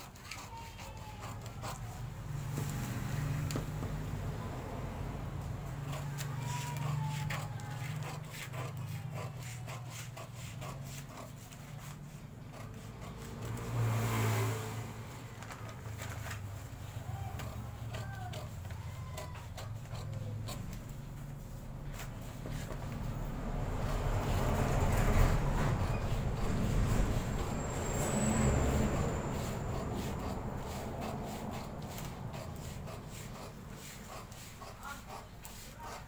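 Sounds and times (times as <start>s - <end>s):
scissors snipping paper: 0.0s - 2.0s, 5.4s - 13.9s, 15.3s - 23.1s, 23.7s - 36.0s.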